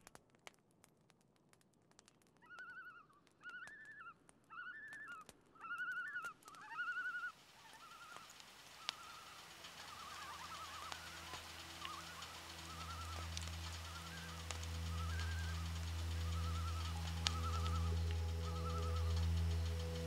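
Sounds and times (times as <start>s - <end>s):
faint campfire crackle: 0.0s - 20.0s
loons tremolo calls: 2.4s - 20.0s.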